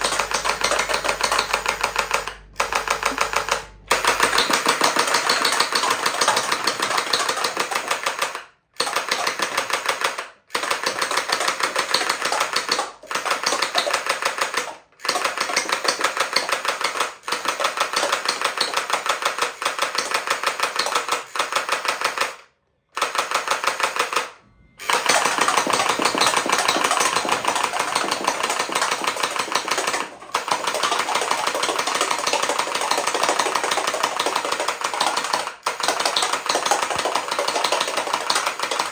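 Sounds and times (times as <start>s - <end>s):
toy blaster mechanical rattle: 0.0s - 38.9s.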